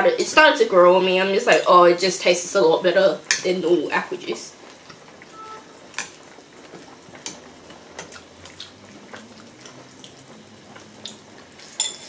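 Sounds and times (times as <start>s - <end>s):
broth simmering and bubbling: 0.0s - 12.0s.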